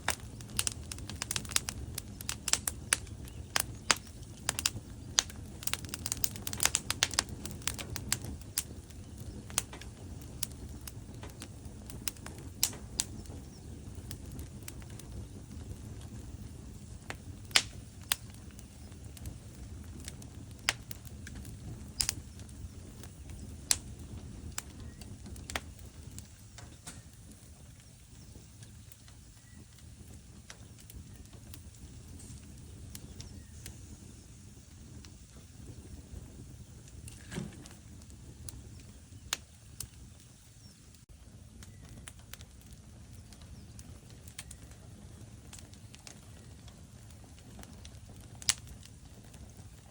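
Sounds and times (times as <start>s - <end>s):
fireplace flames rumbling: 0.0s - 49.9s
logs crackling and popping: 0.0s - 49.9s.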